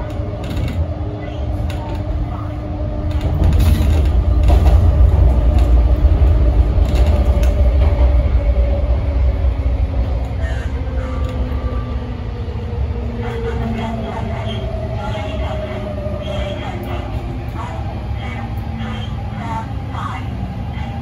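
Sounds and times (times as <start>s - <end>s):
train rumbling with hum: 0.0s - 21.0s.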